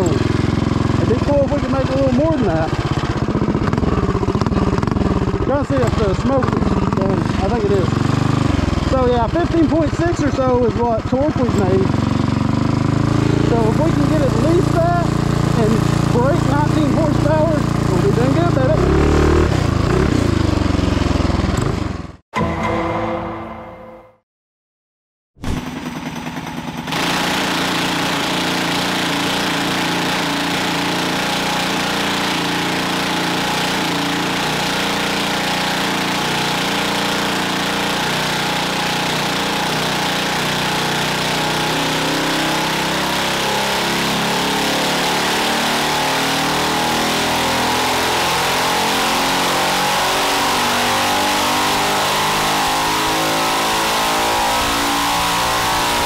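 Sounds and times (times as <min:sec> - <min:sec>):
single-cylinder engine revving: 0:00.0 - 0:22.2, 0:25.5 - 0:56.0.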